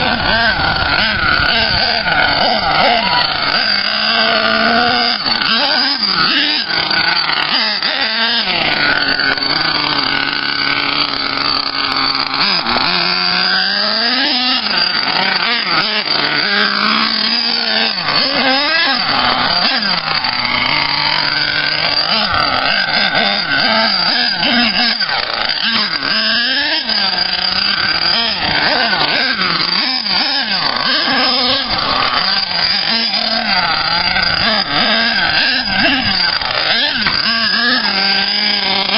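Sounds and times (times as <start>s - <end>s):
rc nitro engine revving: 0.0s - 38.9s.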